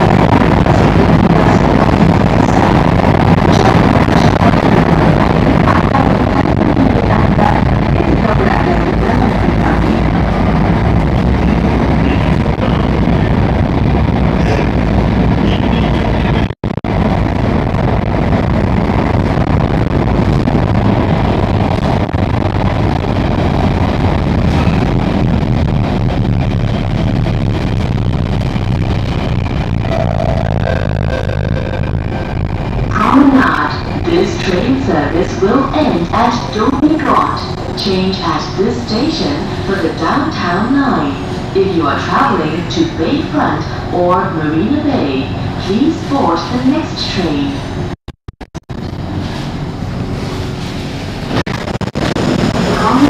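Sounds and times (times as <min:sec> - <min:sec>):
train wheels rumbling: 0:00.0 - 0:48.0
steady whine: 0:00.0 - 0:53.0.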